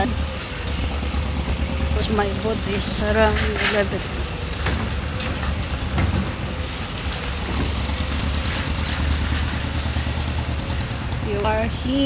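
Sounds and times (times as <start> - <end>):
engine idling rumble: 0.0 - 12.0
outdoor noise: 0.0 - 12.0.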